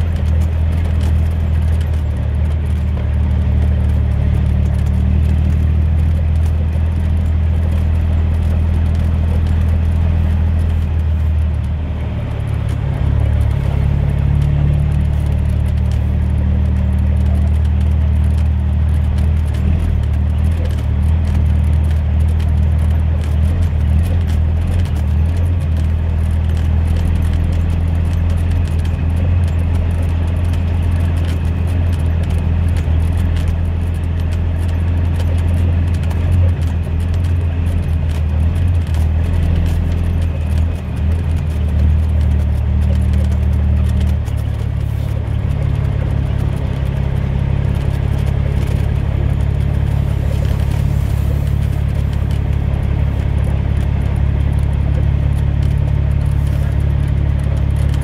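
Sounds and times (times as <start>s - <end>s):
diesel truck engine droning: 0.0s - 58.0s.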